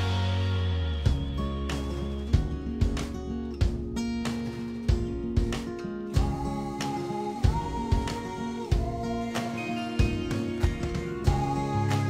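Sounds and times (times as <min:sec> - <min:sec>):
acoustic guitar strumming: 0:00.0 - 0:12.0
steady beat: 0:01.1 - 0:12.0.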